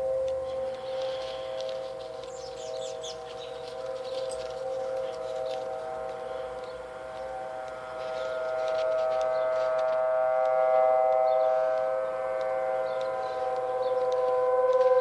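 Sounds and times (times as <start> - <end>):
tornado warning sirens chord: 0.0 - 15.0.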